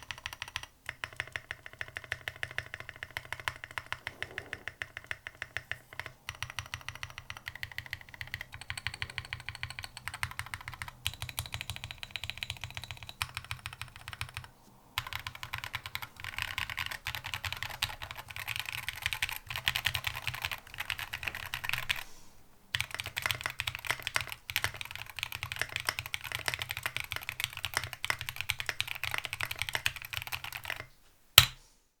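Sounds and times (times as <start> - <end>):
mechanical keyboard typing: 0.0 - 22.1, 22.7 - 30.9.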